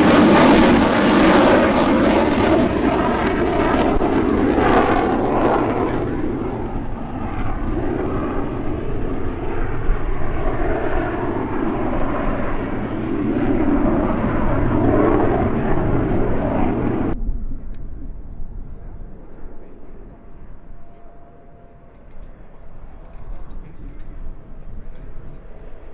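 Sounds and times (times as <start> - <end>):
wind rumbling on microphone: 0.0 - 21.1
airplane engines roaring: 0.0 - 25.9.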